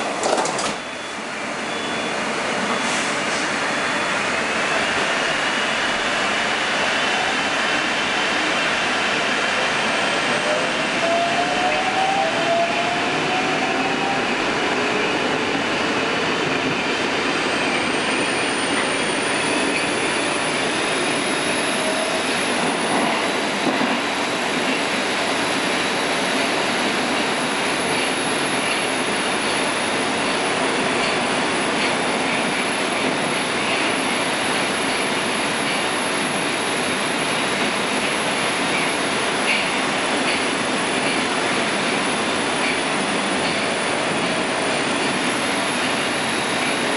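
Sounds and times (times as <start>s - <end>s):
train rumble and wheel noise: 0.0s - 46.9s.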